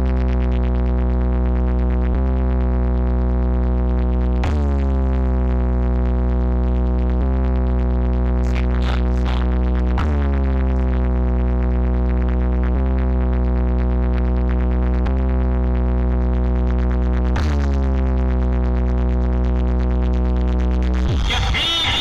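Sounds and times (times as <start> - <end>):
electronic music with heavy bass: 0.0 - 22.0.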